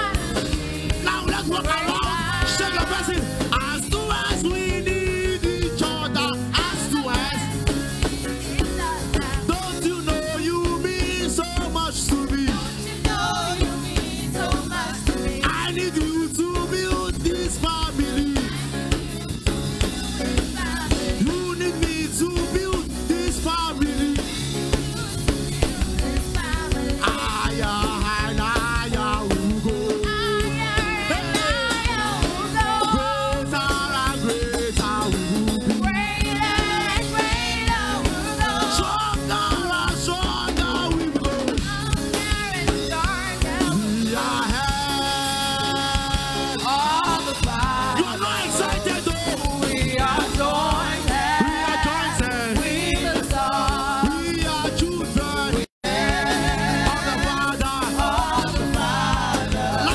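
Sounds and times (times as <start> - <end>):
drum kit steady beat: 0.0 - 59.9
singers on microphones: 0.0 - 59.9.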